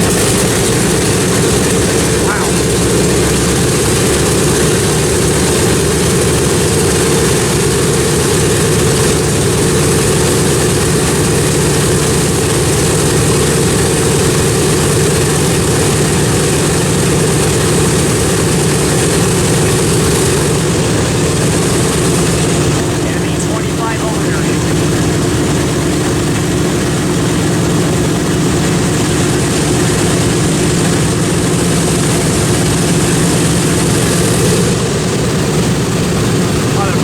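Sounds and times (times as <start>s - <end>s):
propeller plane engines droning: 0.0s - 37.0s.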